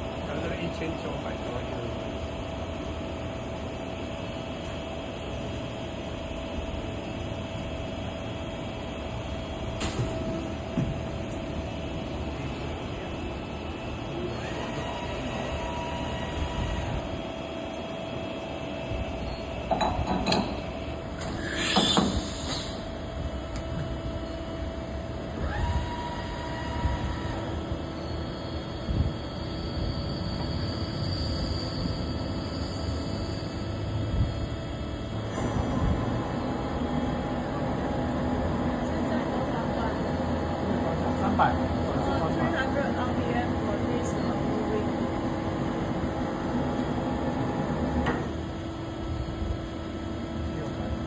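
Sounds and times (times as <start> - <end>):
machine hum and whine: 0.0 - 51.0.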